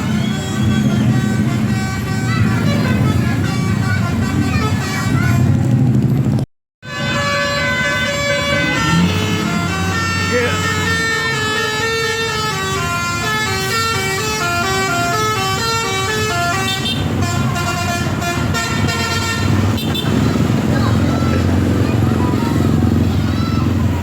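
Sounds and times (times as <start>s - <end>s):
musical bus air horn tune: 0.0s - 5.8s, 6.8s - 21.6s.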